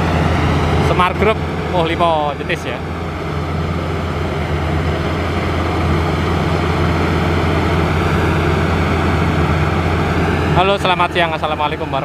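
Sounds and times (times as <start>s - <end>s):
combine harvester engine hum: 0.0s - 12.0s.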